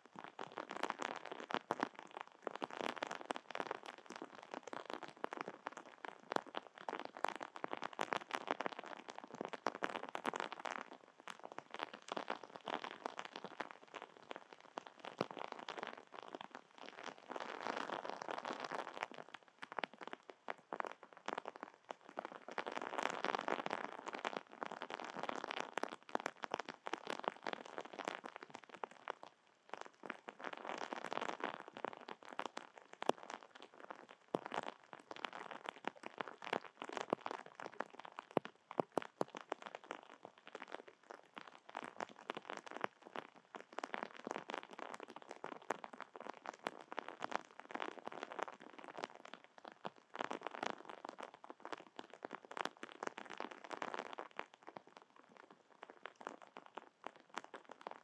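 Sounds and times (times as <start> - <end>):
rain pattering: 11.5 - 58.0.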